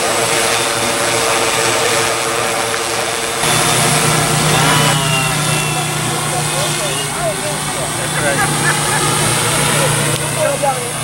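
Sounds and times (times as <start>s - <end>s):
drone propellers whirring: 0.0s - 11.0s.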